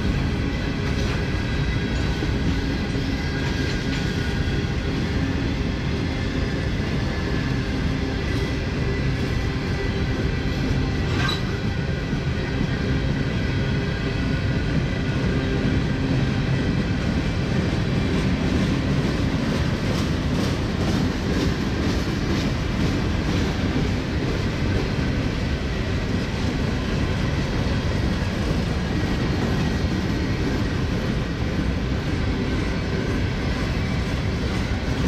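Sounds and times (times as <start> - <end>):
railway cars rumbling past: 0.0 - 35.0.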